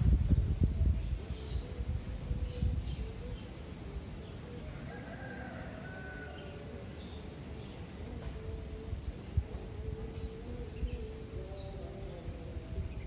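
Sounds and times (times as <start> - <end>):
small birds chirping: 0.8 - 8.8, 9.4 - 13.0.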